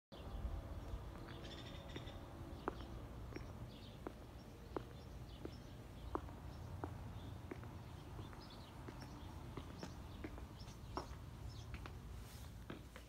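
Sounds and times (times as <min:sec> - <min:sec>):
footsteps on concrete: 0:00.7 - 0:13.0.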